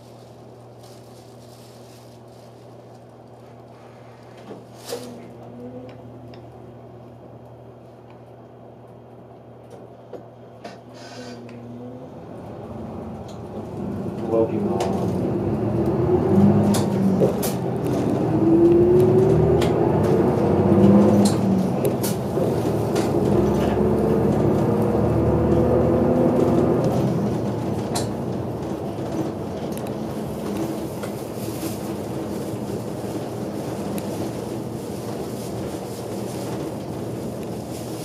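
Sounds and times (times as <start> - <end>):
bus engine rumble and whine: 0.0 - 8.0, 8.6 - 38.0.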